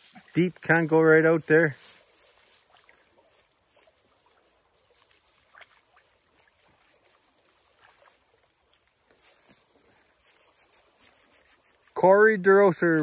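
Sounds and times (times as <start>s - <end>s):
soft water splashes: 0.0s - 12.0s
faint creek water: 0.0s - 13.0s.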